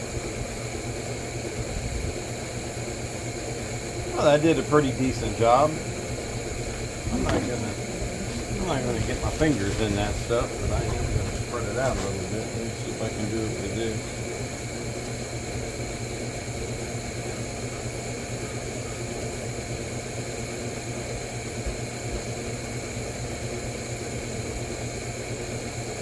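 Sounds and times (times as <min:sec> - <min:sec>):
machine hum with hiss: 0:00.0 - 0:26.0.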